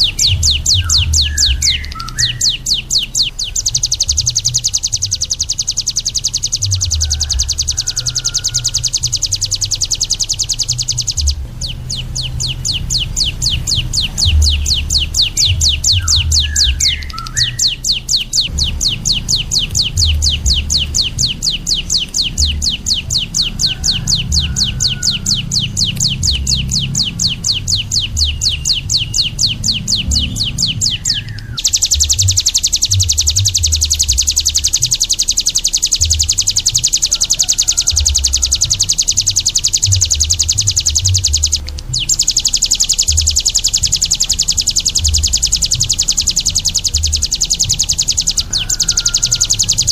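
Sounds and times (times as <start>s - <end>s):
songbird trilling: 0.0s - 49.9s.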